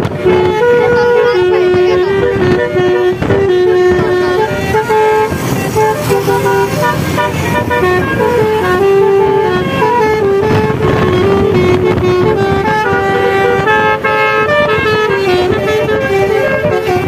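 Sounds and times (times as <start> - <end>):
multi-tone car horn melody: 0.0 - 17.0
road and engine noise: 0.0 - 17.0.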